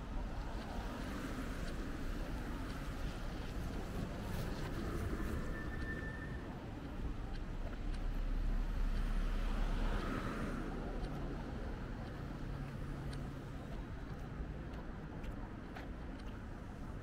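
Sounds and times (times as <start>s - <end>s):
steady low traffic rumble: 0.0s - 17.0s.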